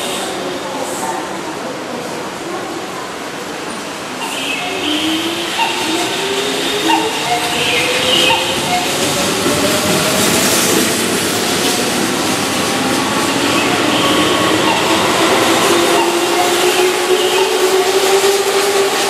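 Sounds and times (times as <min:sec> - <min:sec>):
train cars rumbling: 0:00.0 - 0:19.0.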